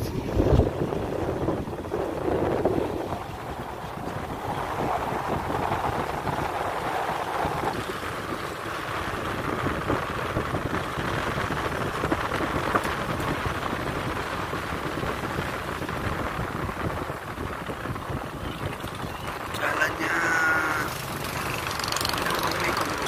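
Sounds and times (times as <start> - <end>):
car engine and road noise: 0.0 - 23.0
rain on a car: 2.2 - 23.0.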